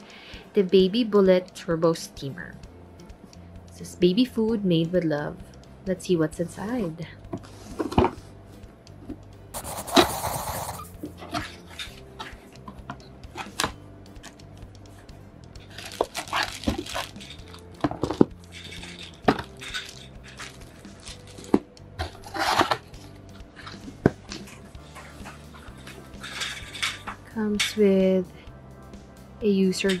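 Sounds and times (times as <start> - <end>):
soft background music: 0.0 - 30.0.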